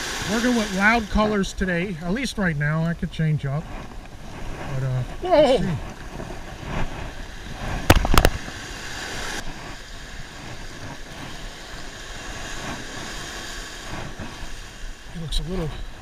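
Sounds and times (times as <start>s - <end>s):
surf washing on sandy beach: 0.0s - 16.0s.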